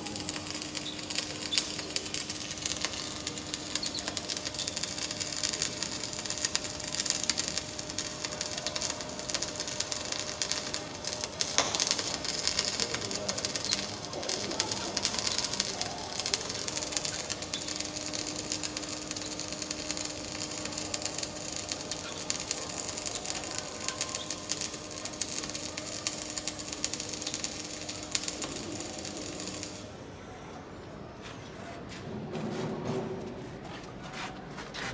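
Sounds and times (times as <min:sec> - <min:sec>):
welding arc crackling: 0:00.0 - 0:29.9.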